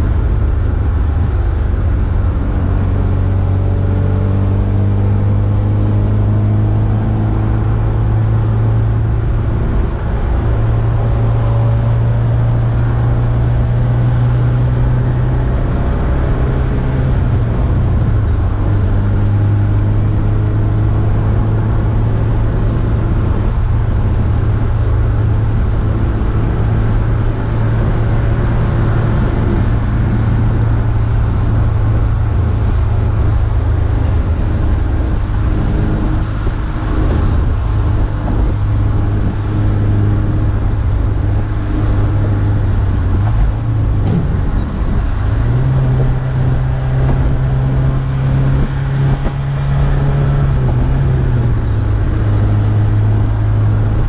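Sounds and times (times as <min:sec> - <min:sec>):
car engine heard from inside: 0:00.0 - 0:54.0.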